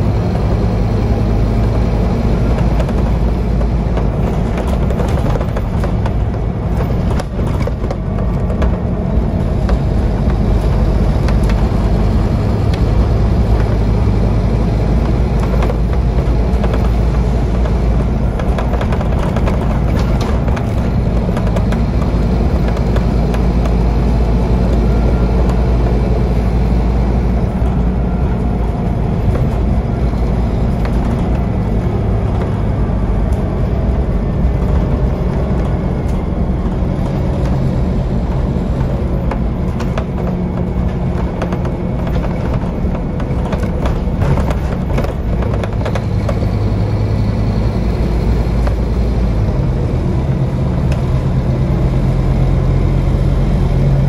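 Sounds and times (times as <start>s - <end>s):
bodywork rattles: 0.0s - 54.0s
bus diesel engine drone: 0.0s - 54.0s.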